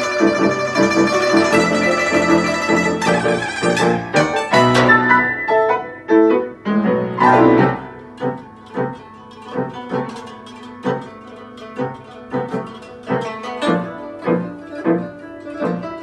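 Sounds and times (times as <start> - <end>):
piano: 0.0 - 10.1, 12.4 - 16.0
guzheng: 0.0 - 16.0.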